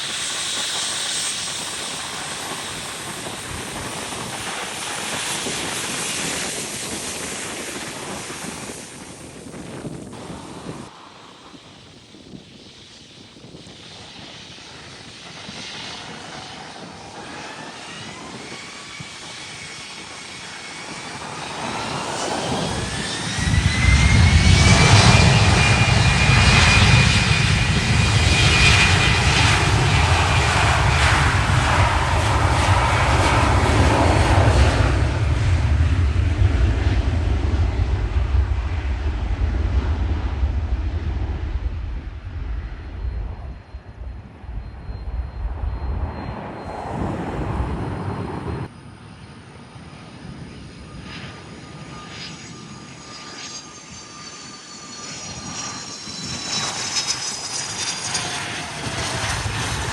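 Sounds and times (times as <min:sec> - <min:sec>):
jet engines whining and roaring: 0:00.0 - 0:59.9.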